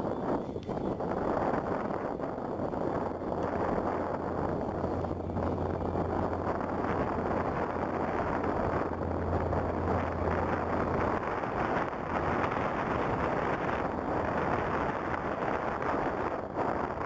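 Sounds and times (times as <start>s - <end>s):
small plane engine at takeoff: 0.0s - 17.0s
wind buffeting microphone: 0.0s - 17.0s.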